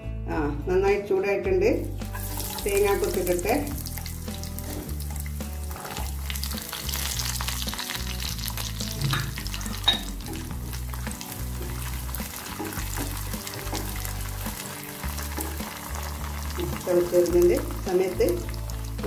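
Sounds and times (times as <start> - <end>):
coconut sizzling in oil: 1.9 - 19.0.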